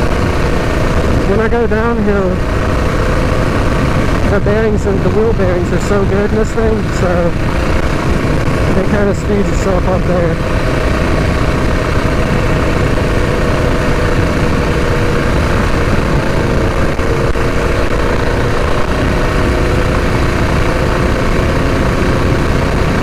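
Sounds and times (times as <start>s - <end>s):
small engine running: 0.0s - 23.0s
wind rumble on microphone: 0.0s - 23.0s.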